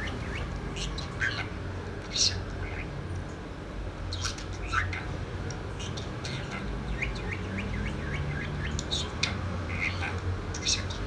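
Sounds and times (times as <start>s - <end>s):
parrot chirping: 0.0s - 3.0s, 4.1s - 11.0s.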